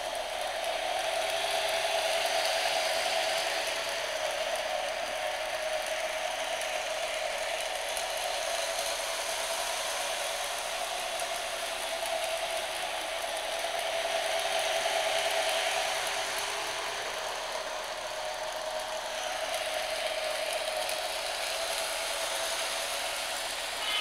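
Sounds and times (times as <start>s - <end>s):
toy train electric motor whir: 0.0s - 24.0s.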